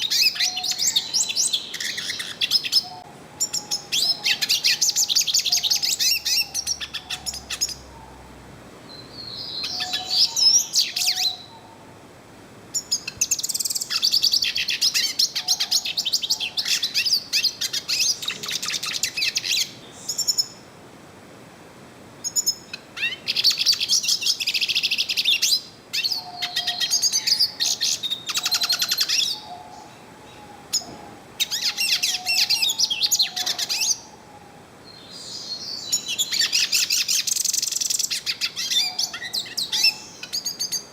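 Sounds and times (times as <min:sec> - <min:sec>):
bird twittering song: 0:00.0 - 0:08.3, 0:08.9 - 0:11.8, 0:12.7 - 0:20.6, 0:22.2 - 0:40.9.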